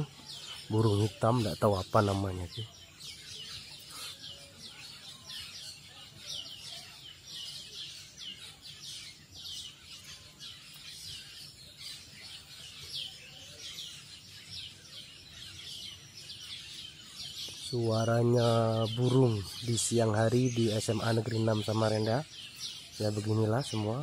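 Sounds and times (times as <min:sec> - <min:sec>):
flock of small birds calling: 0:00.0 - 0:24.0.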